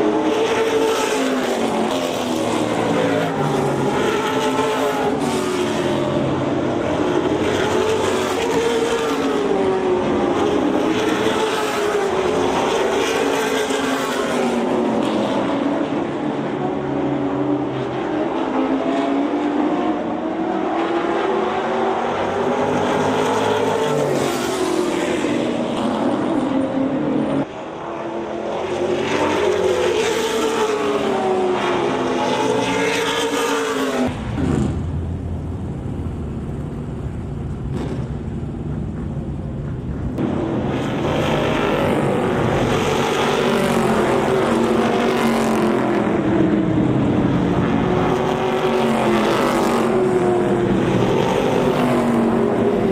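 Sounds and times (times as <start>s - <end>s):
race car engines passing: 0.0s - 52.9s.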